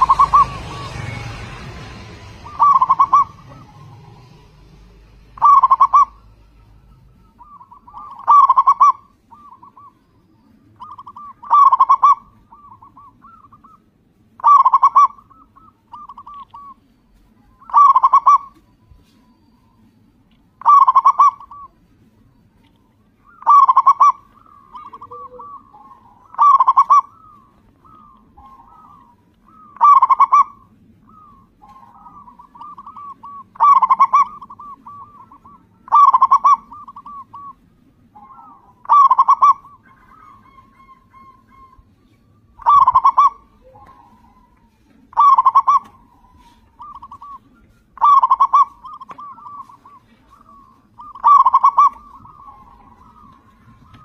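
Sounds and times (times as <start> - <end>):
dove cooing: 0.0 - 22.0, 22.9 - 54.0.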